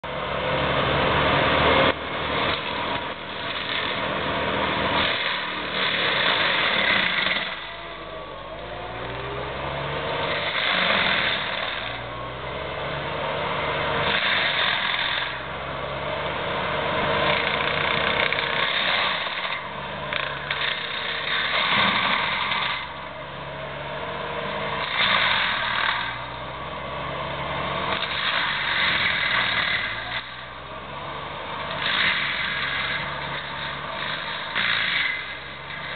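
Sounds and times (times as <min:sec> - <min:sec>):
diesel engine under load: 0:00.0 - 0:35.9
mulcher grinding brush: 0:00.1 - 0:35.9.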